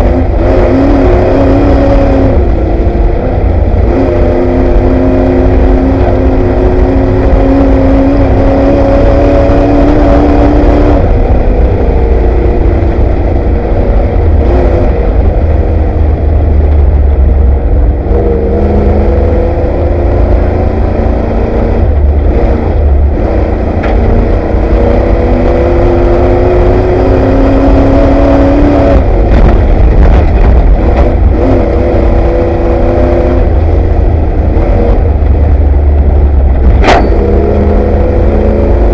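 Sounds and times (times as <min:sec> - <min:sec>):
low rumble of truck on rough ground: 0:00.0 - 0:38.9
truck engine revving: 0:00.0 - 0:38.9.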